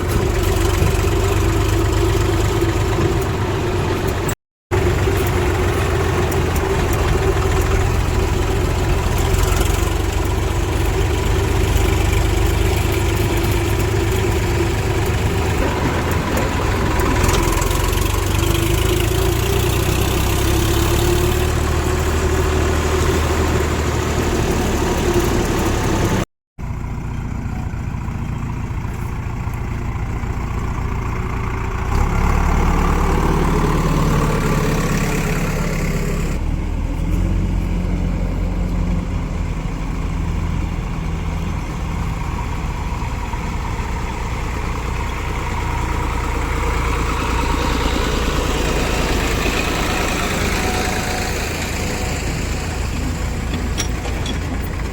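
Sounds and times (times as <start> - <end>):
heavy diesel engine rumbling: 0.0 - 54.9.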